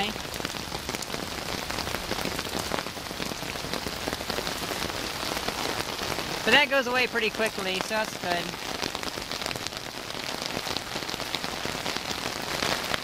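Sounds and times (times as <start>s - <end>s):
rain falling on water: 0.0s - 13.0s.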